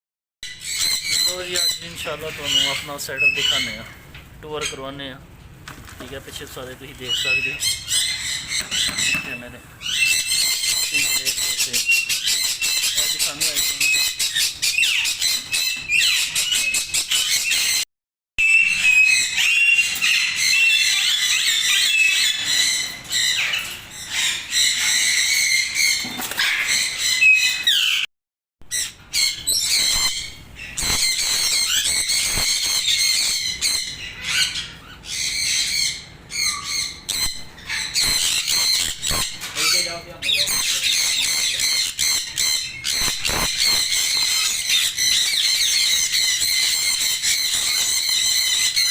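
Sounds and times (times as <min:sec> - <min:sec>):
parrots chattering and squawking: 0:00.5 - 0:17.8, 0:18.4 - 0:28.1, 0:28.7 - 0:48.9.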